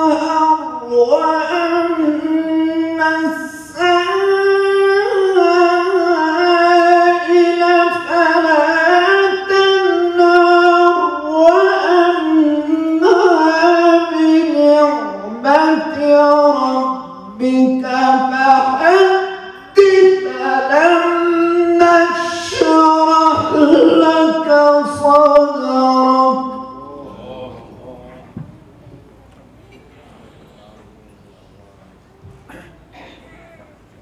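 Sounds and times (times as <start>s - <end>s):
man chanting into a microphone: 0.0s - 28.5s.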